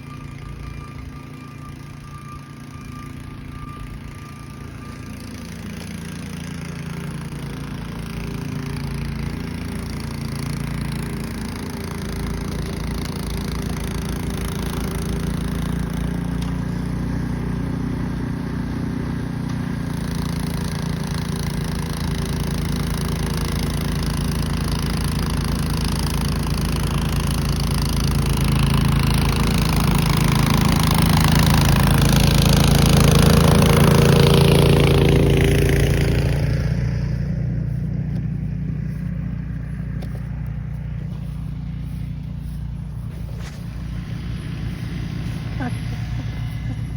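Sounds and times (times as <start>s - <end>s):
snowblower engine running: 0.0s - 46.9s.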